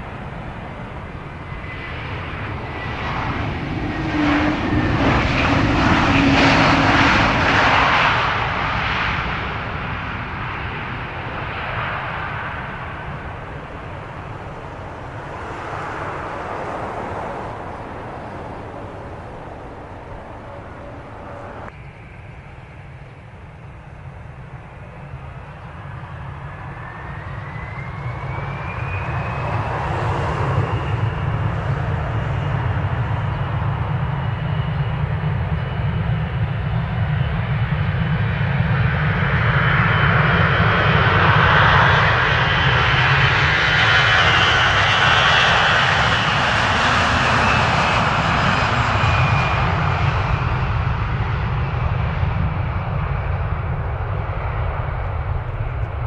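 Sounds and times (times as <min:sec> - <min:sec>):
jet engines whining: 0:00.0 - 0:56.0
jet roar: 0:00.0 - 0:56.0.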